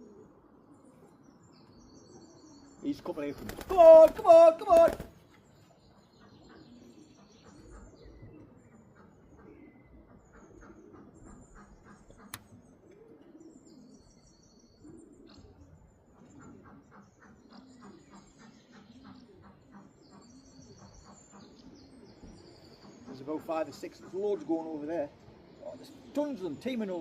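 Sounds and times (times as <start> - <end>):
pigeons cooing: 0.0 - 27.0
small birds chirping: 0.0 - 27.0.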